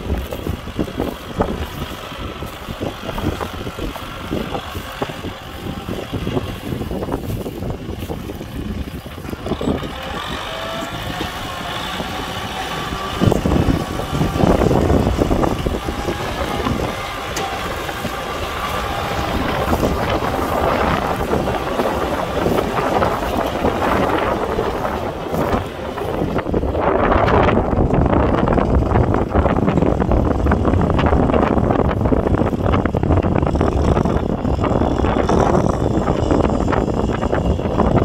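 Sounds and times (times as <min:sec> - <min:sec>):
tractor diesel engine running: 0:00.0 - 0:38.0
wind buffeting microphone: 0:00.0 - 0:38.0.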